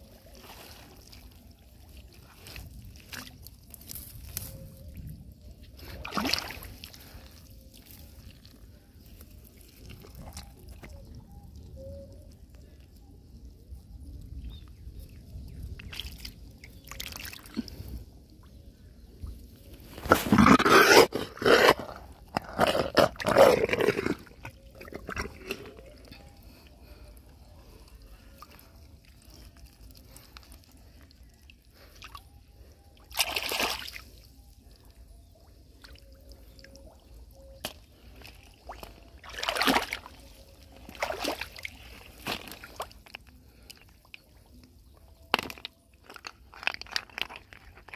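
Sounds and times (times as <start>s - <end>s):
mud squelching and water sloshing: 0.0s - 13.4s, 14.3s - 18.7s, 19.4s - 47.9s.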